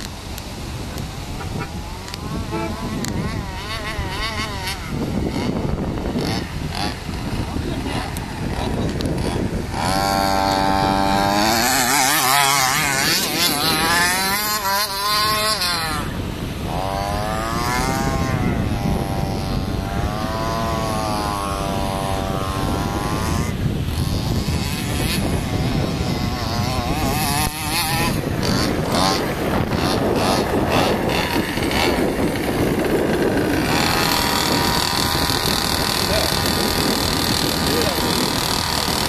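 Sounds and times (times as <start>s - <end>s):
steady rushing noise: 0.0s - 39.0s
toy car motor revving: 0.8s - 39.0s.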